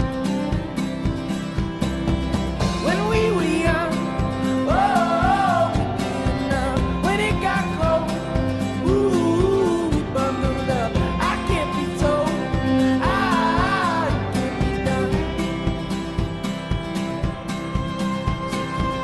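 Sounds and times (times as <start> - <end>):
country song with strummed guitar: 0.0 - 19.0.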